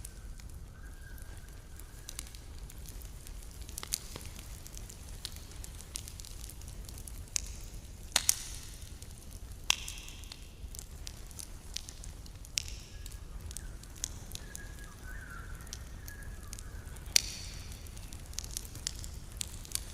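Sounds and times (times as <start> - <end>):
campfire crackling and popping: 0.0 - 19.9.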